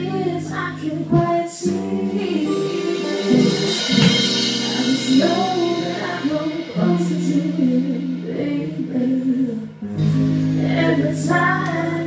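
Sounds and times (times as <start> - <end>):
live band playing: 0.0 - 12.0
woman singing into microphone: 0.0 - 12.0.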